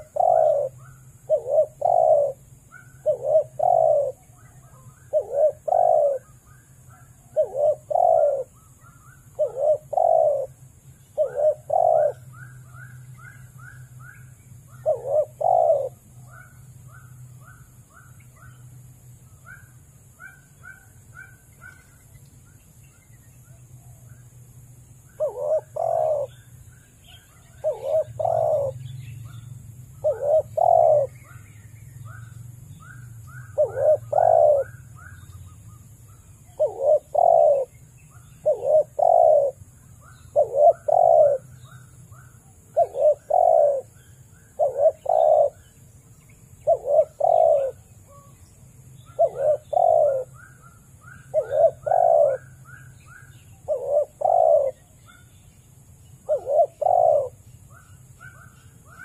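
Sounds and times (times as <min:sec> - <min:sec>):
dove cooing: 0:00.0 - 0:18.7, 0:19.4 - 0:22.0, 0:25.0 - 0:31.4, 0:32.1 - 0:45.9, 0:46.6 - 0:55.4, 0:56.2 - 0:59.0
small birds chirping: 0:00.0 - 0:59.0.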